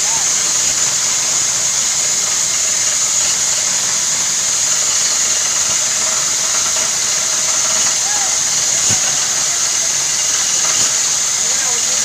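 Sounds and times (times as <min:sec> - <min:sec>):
air compressor hissing: 0:00.0 - 0:12.0.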